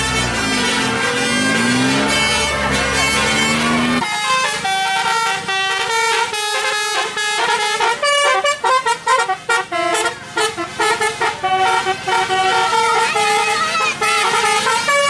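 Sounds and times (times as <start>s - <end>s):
multi-trumpet horn playing a tune: 0.0s - 15.0s.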